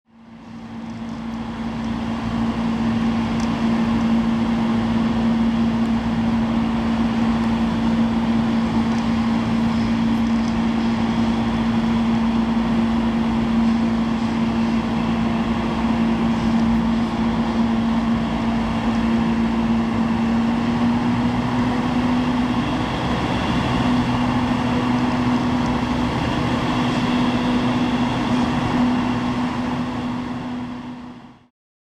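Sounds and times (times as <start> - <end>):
low mechanical hum: 0.1 - 31.5.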